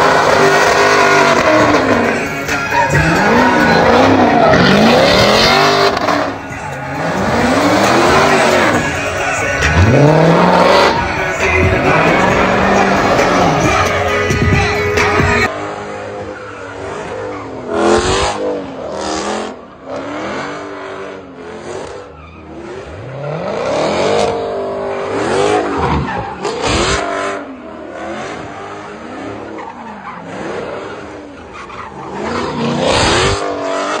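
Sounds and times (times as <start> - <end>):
tyres squealing: 0.0 - 15.5, 21.5 - 34.0
car engine revving: 0.0 - 34.0.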